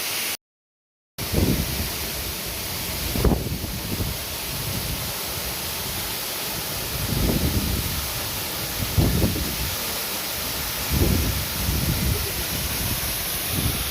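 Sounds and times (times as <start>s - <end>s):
waterfall rushing hiss: 0.0s - 0.4s, 1.2s - 13.9s.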